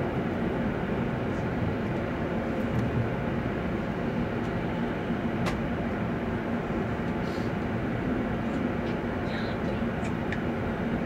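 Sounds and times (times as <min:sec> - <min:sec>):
train cabin low rumble: 0:00.0 - 0:11.0.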